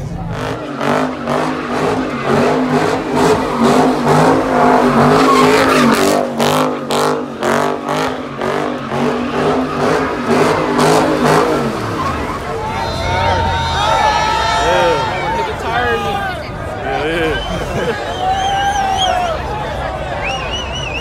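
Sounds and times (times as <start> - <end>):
car engine revving: 0.0 - 17.5.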